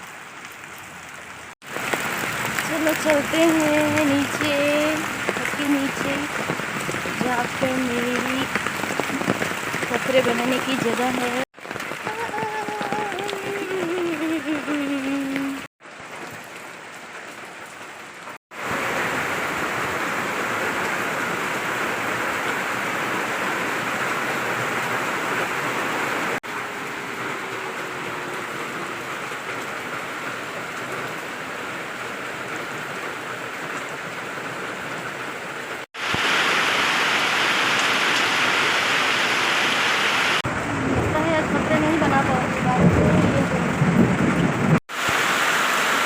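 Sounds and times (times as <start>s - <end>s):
heavy rain hissing: 1.6s - 15.7s, 18.5s - 33.6s, 34.2s - 46.0s.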